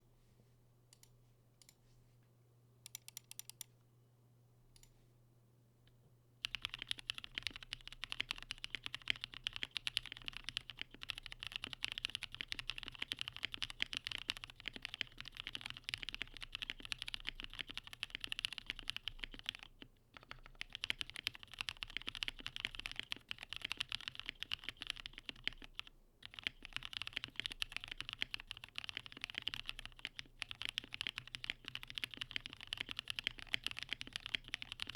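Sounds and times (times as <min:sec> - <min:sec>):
mechanical keyboard typing: 0:02.9 - 0:03.7, 0:06.4 - 0:34.9.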